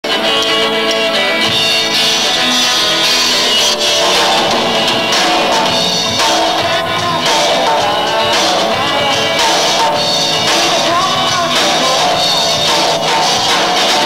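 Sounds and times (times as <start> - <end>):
bass guitar: 0.0 - 14.0
electric guitars: 0.0 - 14.0
drum kit: 1.4 - 14.0.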